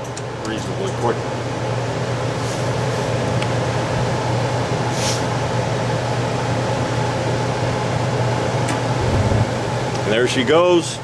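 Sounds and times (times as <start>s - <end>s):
furnace blower fan humming: 0.0s - 11.0s.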